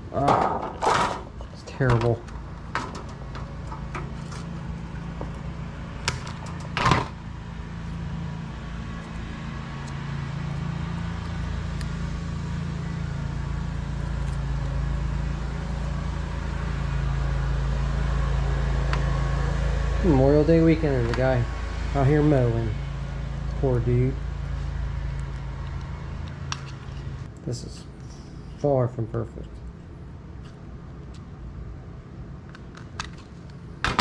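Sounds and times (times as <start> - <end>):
lawn mower engine running: 0.0 - 27.3.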